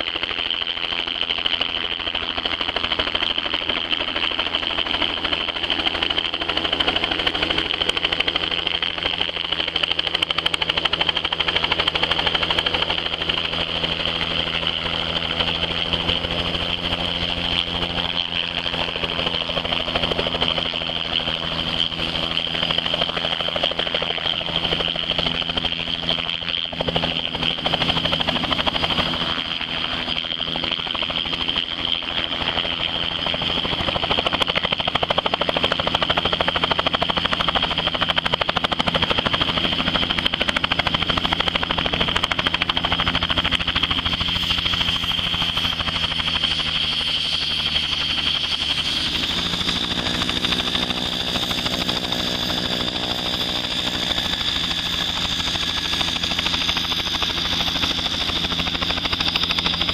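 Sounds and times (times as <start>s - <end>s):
helicopter rotor chop: 0.0s - 59.9s
helicopter turbine whine: 0.0s - 59.9s.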